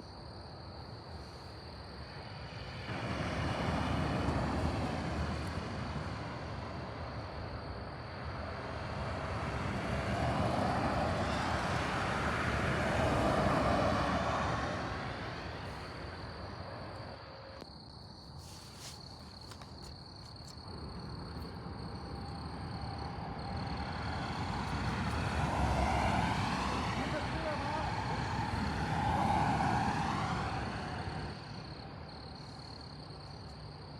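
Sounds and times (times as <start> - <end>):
vehicles passing by: 0.2 - 17.7, 18.4 - 33.9.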